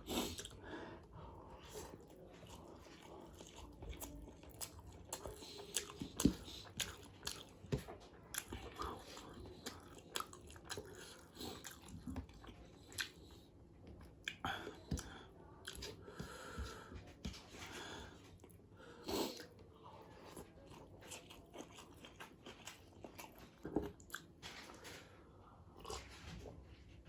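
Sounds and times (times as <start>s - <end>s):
chewing with wet smacks: 0.0s - 0.7s, 1.6s - 25.0s.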